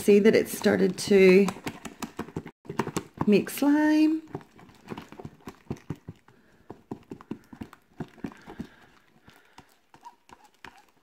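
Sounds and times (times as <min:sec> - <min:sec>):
slime squelching while stirred: 0:00.0 - 0:11.0.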